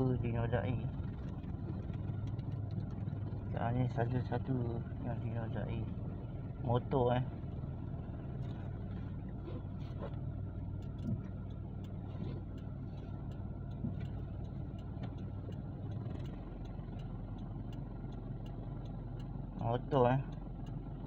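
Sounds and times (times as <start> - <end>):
car engine hum and cabin noise: 0.0 - 21.0.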